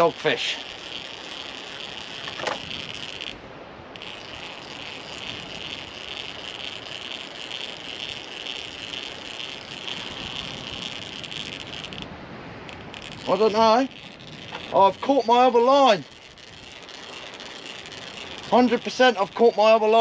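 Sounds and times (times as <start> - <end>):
fishing reel cranking: 0.0 - 20.0.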